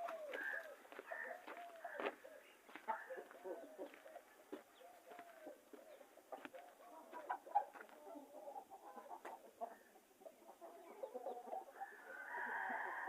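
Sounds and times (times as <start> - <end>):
chickens clucking: 0.0 - 13.0
drawn-out chicken call: 0.0 - 13.0.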